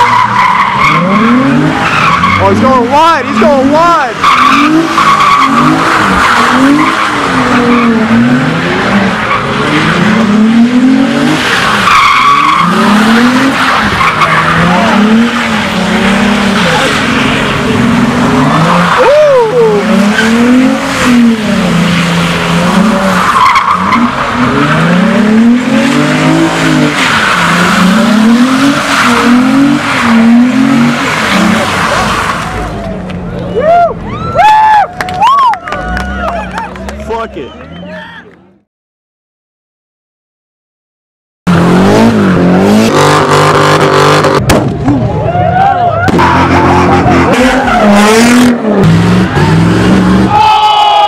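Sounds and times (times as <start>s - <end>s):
car engine revving: 0.0s - 33.4s, 41.5s - 45.4s, 46.0s - 50.4s
tyres squealing and skidding: 0.0s - 36.8s, 41.5s - 51.0s.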